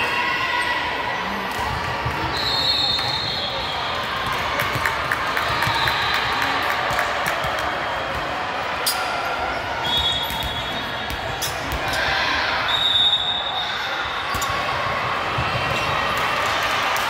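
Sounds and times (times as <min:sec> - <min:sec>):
crowd chatter in large hall: 0:00.0 - 0:17.0.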